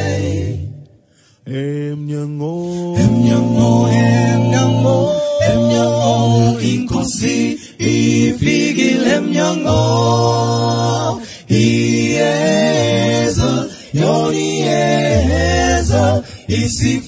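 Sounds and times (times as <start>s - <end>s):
male vocal group singing: 0.0s - 17.0s.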